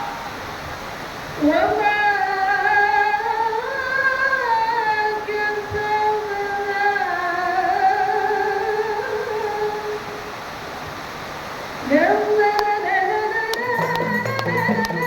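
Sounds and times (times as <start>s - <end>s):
solo singer with high voice: 0.0s - 10.4s, 11.8s - 15.0s.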